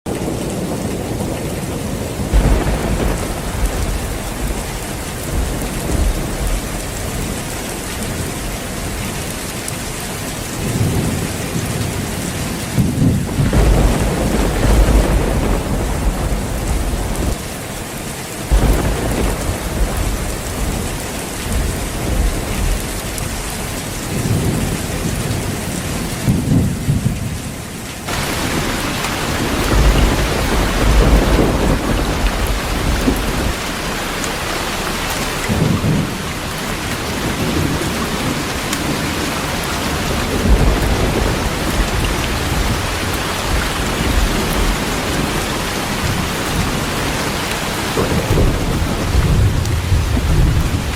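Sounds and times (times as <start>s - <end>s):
heavy rain falling: 0.1s - 50.9s
rolling thunder: 0.1s - 50.9s.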